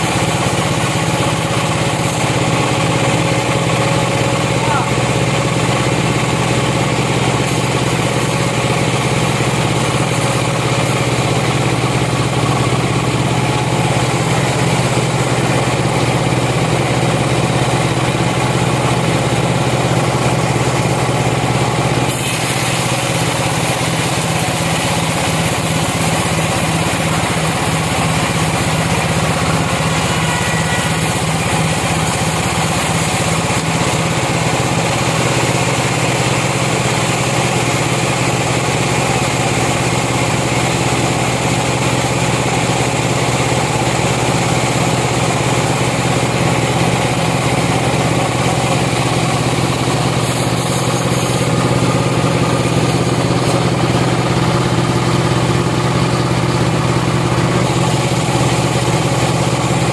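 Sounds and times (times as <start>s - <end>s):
sawmill machinery engine running: 0.0s - 59.9s.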